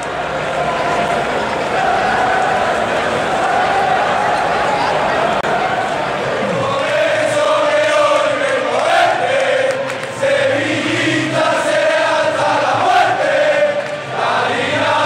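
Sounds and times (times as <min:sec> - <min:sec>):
stadium crowd singing: 0:00.0 - 0:15.0.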